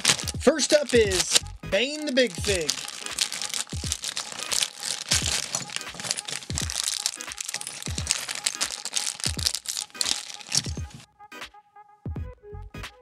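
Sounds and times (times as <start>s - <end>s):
background music with deep bass: 0.0s - 8.6s, 10.6s - 13.0s
plastic bag crinkling: 0.0s - 11.0s
plastic pieces clicking on table: 0.0s - 11.0s.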